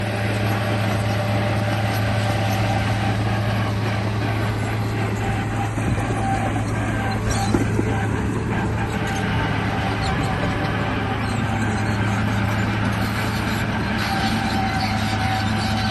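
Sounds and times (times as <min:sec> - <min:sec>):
toy bulldozer motor running: 0:00.0 - 0:15.9.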